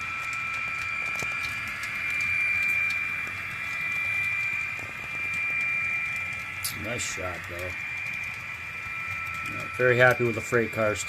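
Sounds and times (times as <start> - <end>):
model train whine and rumble: 0.0 - 11.0
wheels clicking on rails: 0.0 - 11.0.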